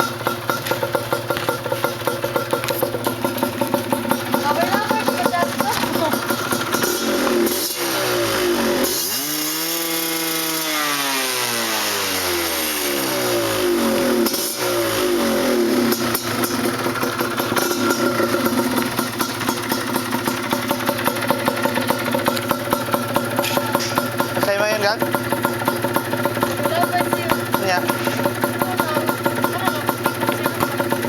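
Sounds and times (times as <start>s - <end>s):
motorcycle engine revving and idling: 0.0s - 31.0s.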